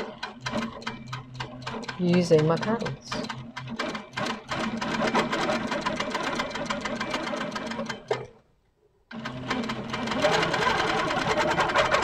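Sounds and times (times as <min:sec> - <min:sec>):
quilting machine stitching: 0:00.0 - 0:08.4, 0:09.1 - 0:12.0.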